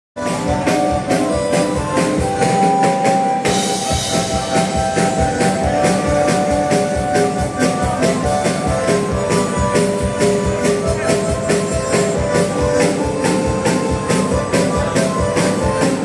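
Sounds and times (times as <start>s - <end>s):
bandoneon playing: 0.2s - 16.0s
steady drum beat: 0.2s - 16.0s.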